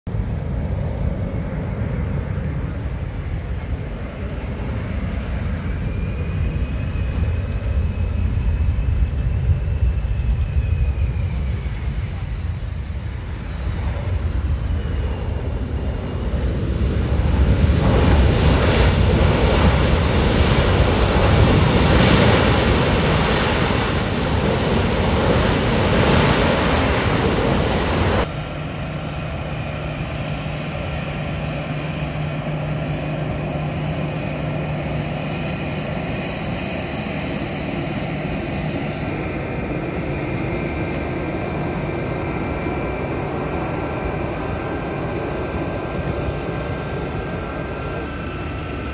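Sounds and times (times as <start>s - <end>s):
jet whine while taxiing: 0.1s - 48.9s
loud rushing jet noise: 4.4s - 48.9s.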